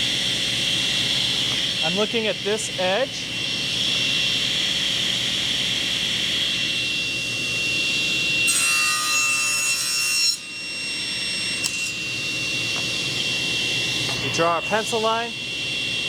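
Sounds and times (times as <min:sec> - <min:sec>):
machine drone with whine: 0:00.0 - 0:08.5, 0:10.6 - 0:16.0
miter saw cutting wood: 0:01.1 - 0:16.0.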